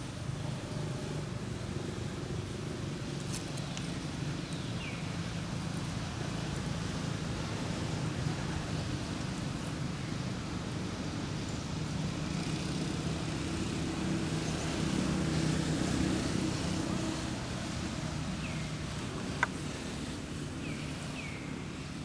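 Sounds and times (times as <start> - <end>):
distant vehicle engine hum: 0.0 - 22.0.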